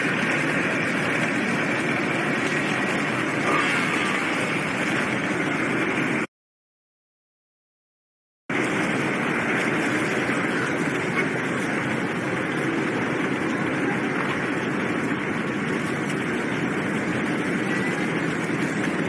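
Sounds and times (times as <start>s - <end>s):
rushing water: 0.0s - 6.2s, 8.5s - 19.0s
ship engines rumbling: 0.0s - 6.3s, 8.5s - 19.0s.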